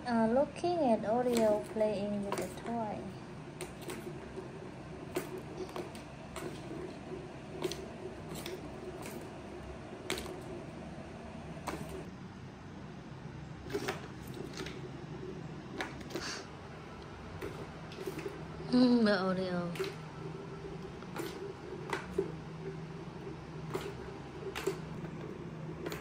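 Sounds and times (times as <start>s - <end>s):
steady low hum: 0.0s - 26.0s
plastic ball rolling in track: 0.6s - 12.1s, 13.6s - 26.0s.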